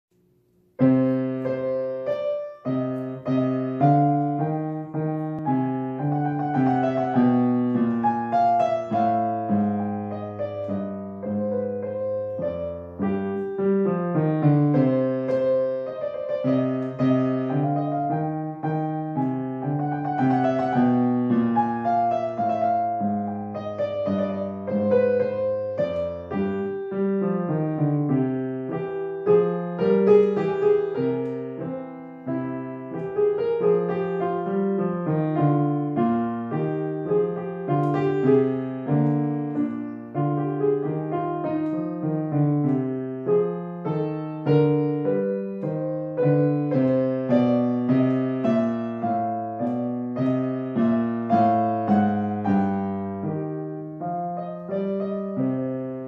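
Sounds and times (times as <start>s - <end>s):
solo grand piano: 0.1s - 56.0s.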